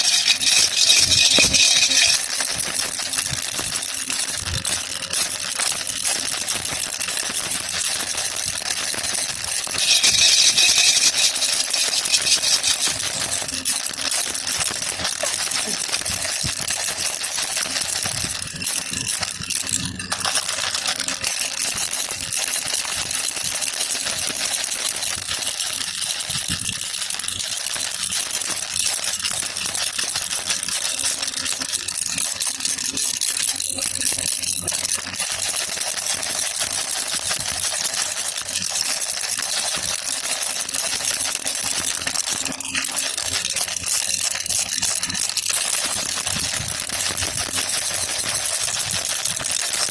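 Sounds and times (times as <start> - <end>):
baby rattle shaken: 0.0 - 49.9.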